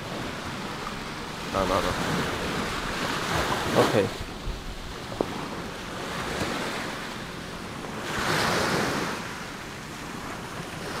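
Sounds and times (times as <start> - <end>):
small waves washing onto beach: 0.0 - 11.0
wind on microphone: 0.0 - 11.0.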